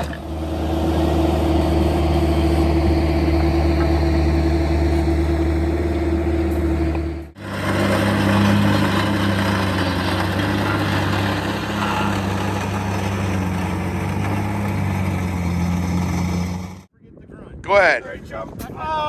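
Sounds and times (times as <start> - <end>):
heavy machinery engine running: 0.0 - 16.9.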